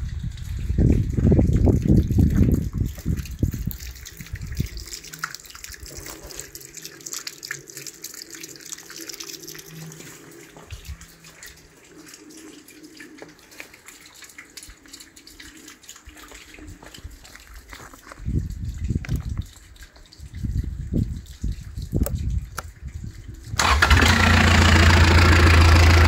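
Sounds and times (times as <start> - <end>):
hose water splashing into bucket: 0.0 - 26.0.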